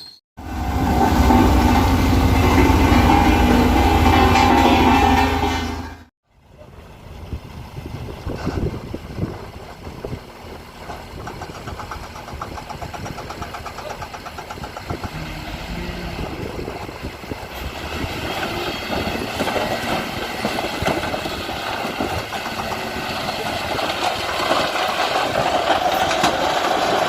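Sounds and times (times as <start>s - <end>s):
heavy diesel machinery running: 0.4s - 27.0s.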